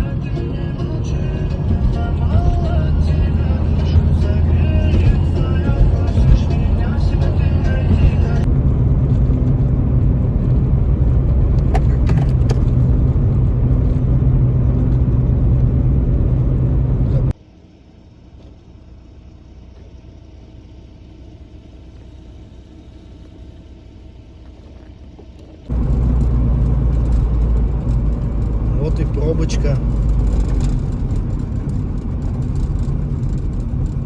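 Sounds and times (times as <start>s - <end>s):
car engine and road rumble: 0.0s - 34.0s
low hum: 0.0s - 34.0s.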